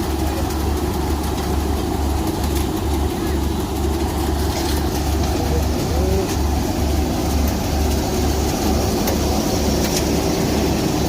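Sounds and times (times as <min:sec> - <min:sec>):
tractor diesel engine throbbing: 0:00.0 - 0:11.0.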